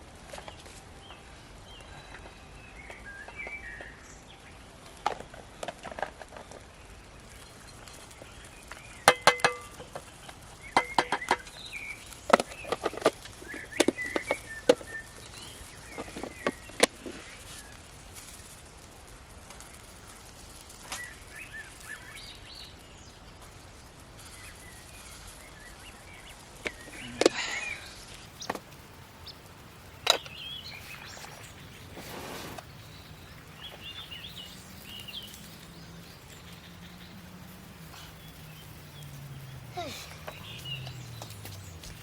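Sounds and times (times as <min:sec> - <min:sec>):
birds chirping: 0:00.2 - 0:42.0.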